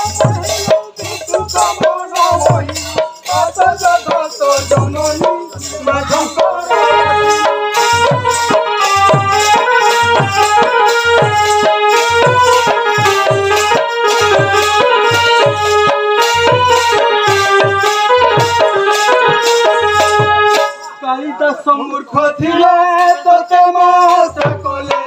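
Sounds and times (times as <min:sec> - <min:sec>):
barrel drum beating: 0:00.0 - 0:20.9
held many-toned melody: 0:00.0 - 0:25.0.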